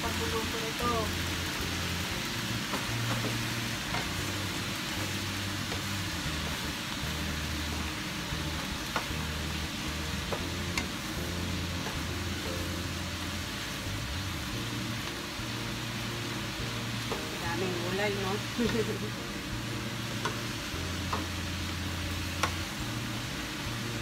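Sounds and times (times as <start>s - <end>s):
noodles sizzling in a frying pan: 0.0s - 24.0s.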